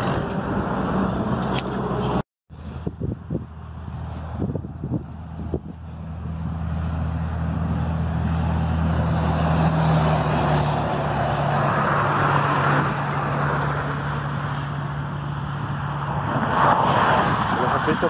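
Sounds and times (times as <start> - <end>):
low engine drone: 0.0 - 16.8
tyre and road noise: 0.0 - 18.0.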